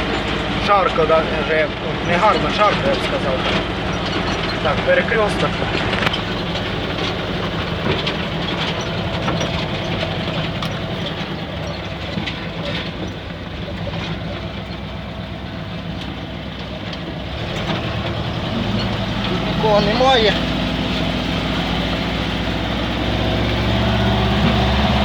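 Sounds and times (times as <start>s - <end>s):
light clicks and rattles: 0.0s - 22.4s
engine running at low speed: 0.0s - 25.0s.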